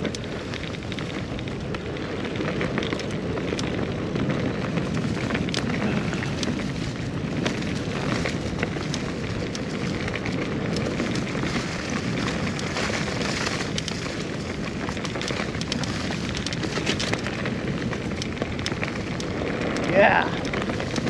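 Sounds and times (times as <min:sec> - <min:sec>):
bike clicks and rattles: 0:00.0 - 0:21.0
tyre and trail noise: 0:00.0 - 0:21.0
wind rushing over microphone: 0:00.0 - 0:21.0.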